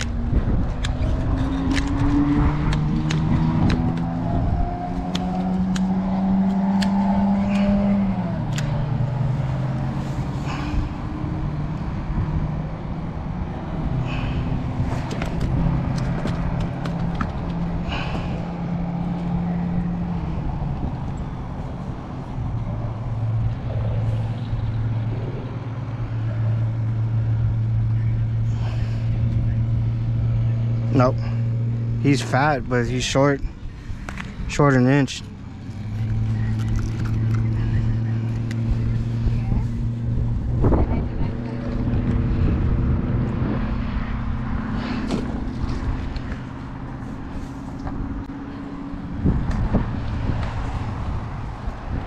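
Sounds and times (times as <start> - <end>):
engine drone: 0.0 - 52.0.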